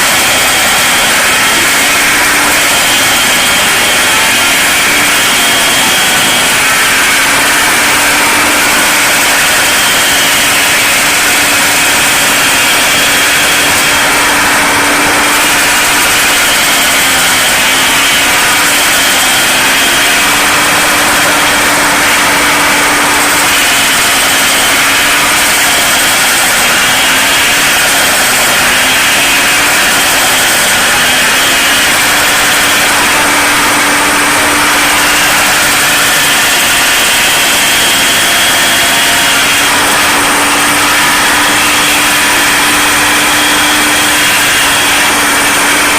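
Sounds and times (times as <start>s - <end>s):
stump grinder grinding: 0.0s - 45.9s
tractor diesel engine running: 0.0s - 45.9s.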